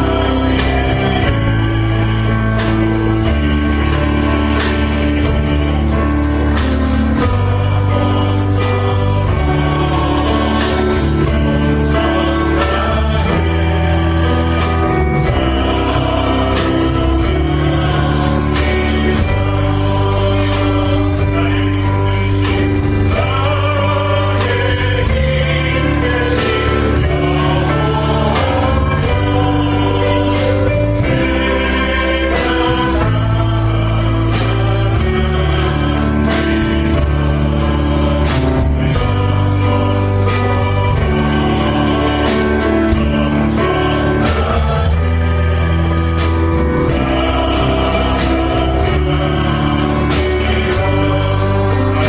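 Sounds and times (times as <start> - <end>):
worship music with steady beat: 0.0 - 52.0.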